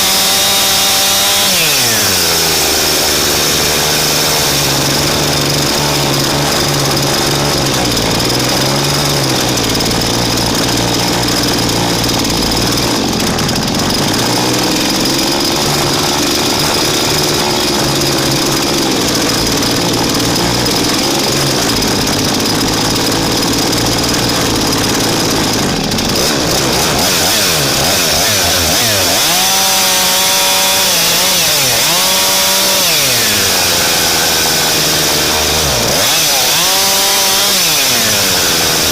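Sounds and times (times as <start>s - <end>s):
chainsaw running under load: 0.0s - 38.9s.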